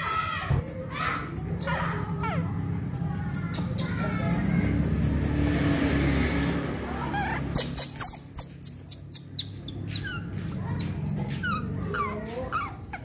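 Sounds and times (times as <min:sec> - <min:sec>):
baby monkey squeaking: 0:00.0 - 0:05.8, 0:06.9 - 0:13.0.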